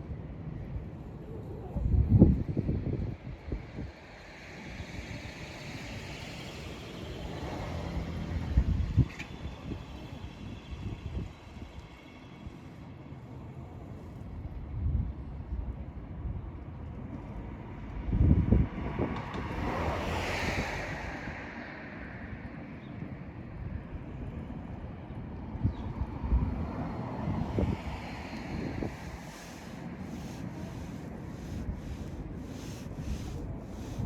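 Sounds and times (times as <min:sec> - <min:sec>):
wind rumbling on microphone: 0:00.0 - 0:12.0, 0:13.9 - 0:34.0.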